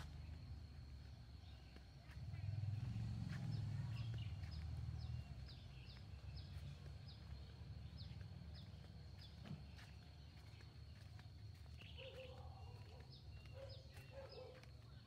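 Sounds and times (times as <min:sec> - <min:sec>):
bird chirping: 0:00.0 - 0:11.1, 0:11.7 - 0:15.0.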